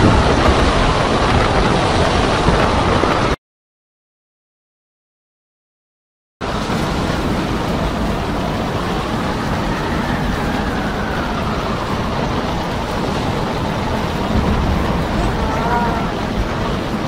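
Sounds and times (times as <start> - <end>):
storm wind and heavy seas: 0.0 - 3.4, 6.4 - 17.0
wind buffeting microphone: 0.0 - 3.4, 6.4 - 17.0.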